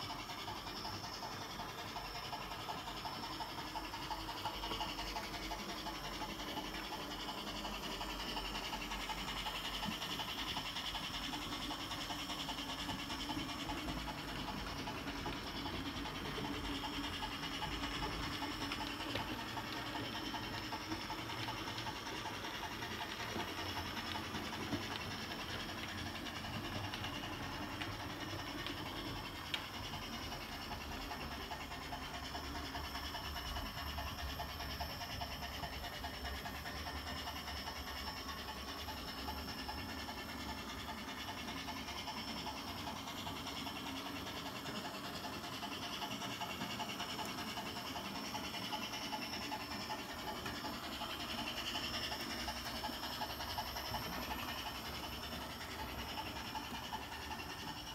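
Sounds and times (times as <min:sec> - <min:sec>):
model train running on track: 0:00.0 - 0:57.9.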